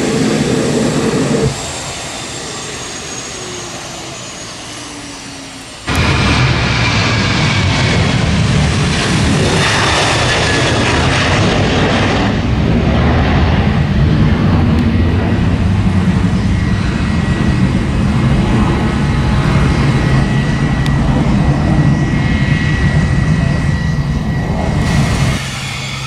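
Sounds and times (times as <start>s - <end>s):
faint jet whine: 0.0s - 26.0s
jet engines roaring at takeoff: 0.0s - 26.0s.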